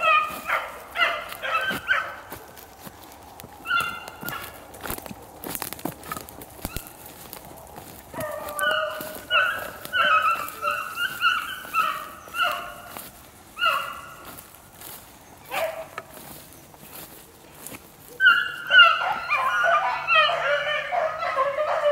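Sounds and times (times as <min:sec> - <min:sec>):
beagles baying: 0:00.0 - 0:21.9.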